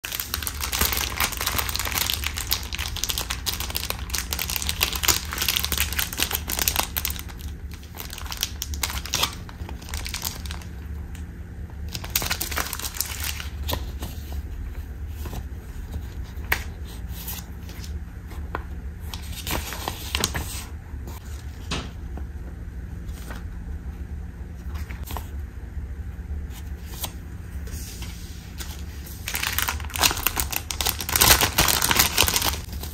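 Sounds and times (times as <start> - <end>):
cellophane and paper crinkling: 0.0 - 11.2, 11.9 - 17.9, 18.5 - 21.5, 26.6 - 32.9.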